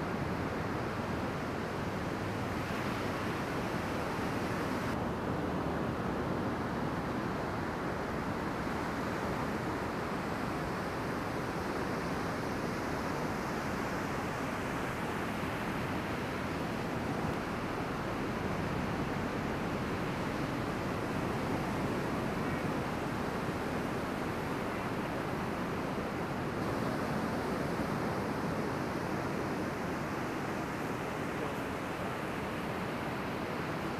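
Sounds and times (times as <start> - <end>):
ocean surf washing: 0.0 - 33.9.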